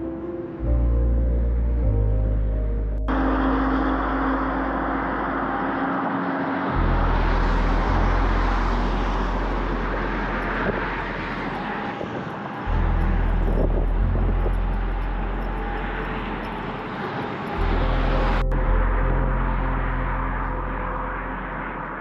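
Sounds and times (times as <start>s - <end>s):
ambient music bass notes: 0.0s - 11.7s, 12.6s - 22.0s.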